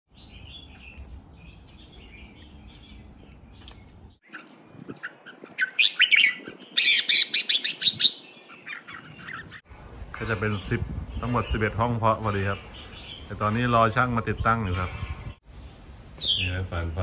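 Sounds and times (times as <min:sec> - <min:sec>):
bird chirping phrases: 0:00.1 - 0:17.0
faint scattered bird chirps: 0:00.1 - 0:17.0.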